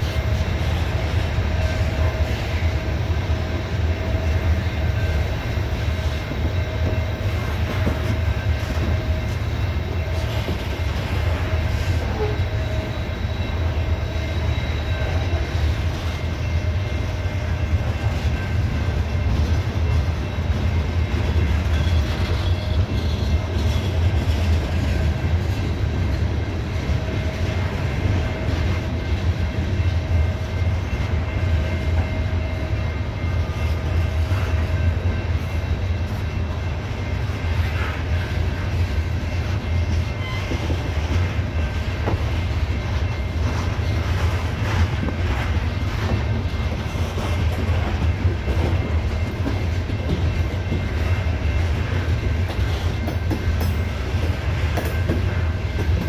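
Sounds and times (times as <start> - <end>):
train wheels rumbling on rails: 0.0 - 56.0
thin steady ringing tone: 0.1 - 56.0.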